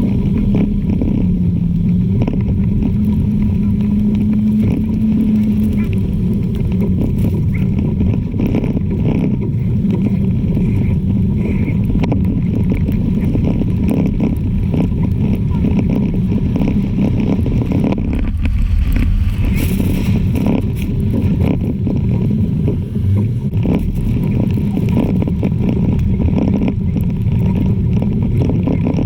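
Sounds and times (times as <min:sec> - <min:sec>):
truck engine low rumble: 0:00.0 - 0:29.0.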